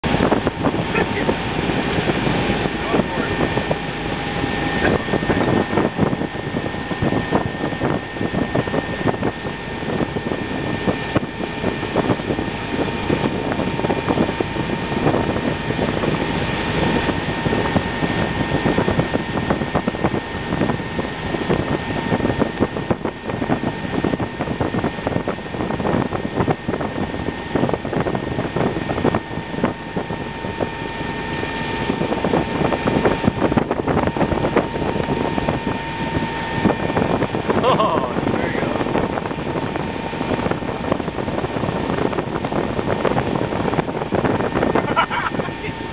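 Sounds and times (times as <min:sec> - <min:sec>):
motorboat engine and churning water: 0:00.0 - 0:45.9
wind buffeting microphone: 0:00.0 - 0:45.9.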